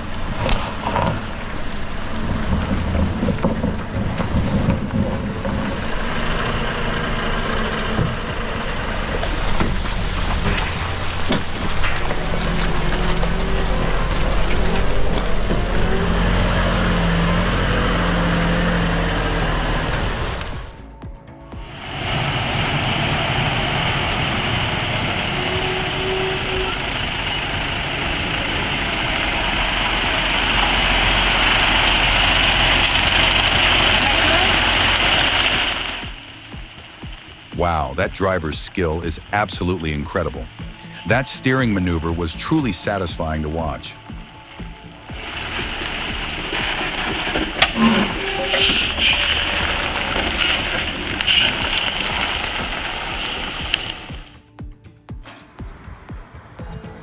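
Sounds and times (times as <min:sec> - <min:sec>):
truck engine running: 0:00.0 - 0:54.6
wet road hiss: 0:00.0 - 0:55.1.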